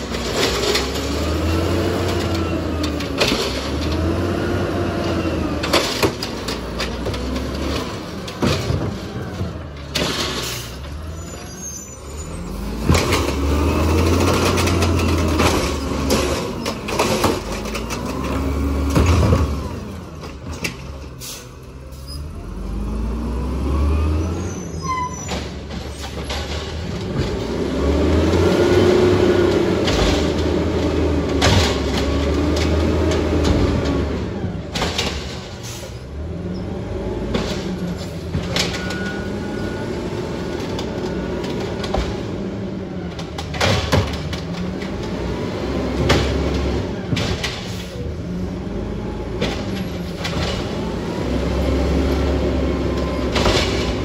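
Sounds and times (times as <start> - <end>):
carts and arm clanking: 0.0 - 22.7, 24.3 - 54.0
garbage truck engine revving: 0.0 - 54.0.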